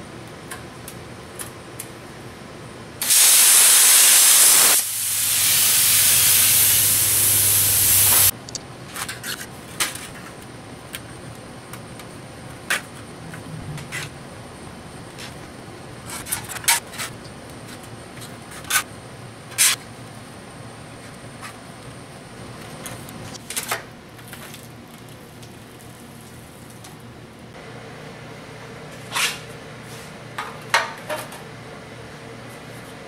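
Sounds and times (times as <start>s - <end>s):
low shop hum: 0.0s - 33.0s.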